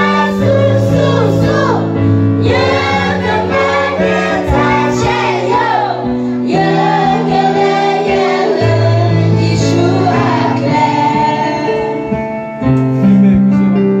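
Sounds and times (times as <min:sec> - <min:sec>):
young female voices singing: 0:00.0 - 0:12.1.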